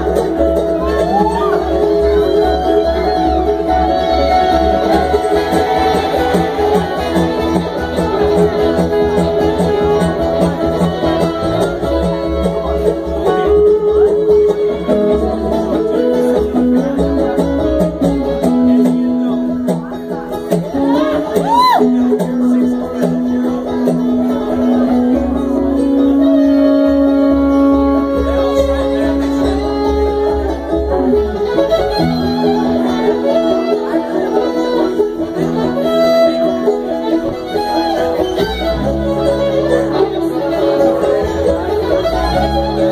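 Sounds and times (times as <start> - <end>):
acoustic guitar: 0.0 - 42.9
bluegrass string band playing: 0.0 - 42.9
fiddle holding long notes: 0.0 - 42.9
upright bass: 0.0 - 42.9.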